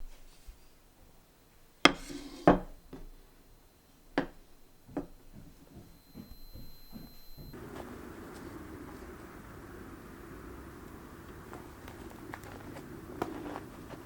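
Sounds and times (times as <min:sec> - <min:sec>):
wood crackle: 0:02.7 - 0:14.0.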